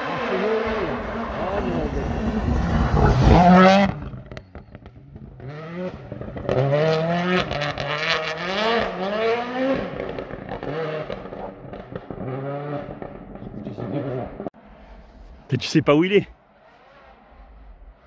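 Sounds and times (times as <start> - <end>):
rally car engine revving: 0.0 - 15.4, 16.6 - 18.0.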